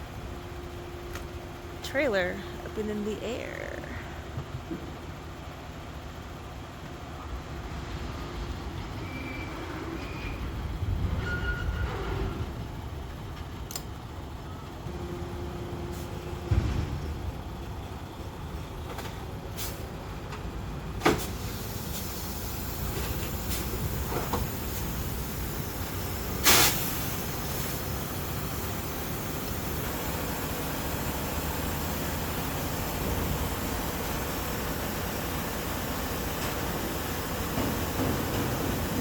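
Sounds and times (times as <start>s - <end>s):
truck machinery running: 0.0s - 39.0s.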